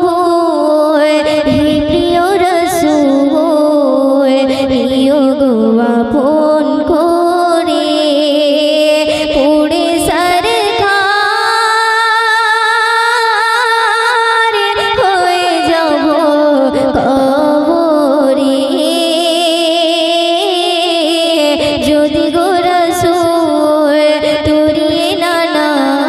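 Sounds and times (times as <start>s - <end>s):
girl singing into a microphone: 0.0s - 26.0s.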